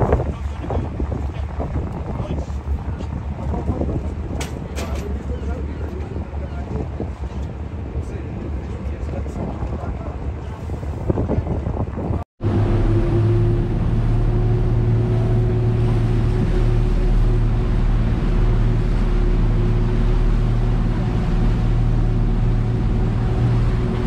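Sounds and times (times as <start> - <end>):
boat engine droning: 0.0 - 24.0
water rushing along hull: 0.0 - 24.0.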